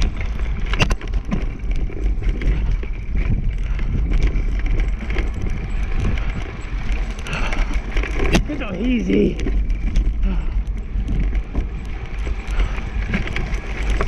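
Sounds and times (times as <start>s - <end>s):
wheels rumbling on dirt trail: 0.0s - 14.0s
wind rumbling on microphone: 0.0s - 14.0s.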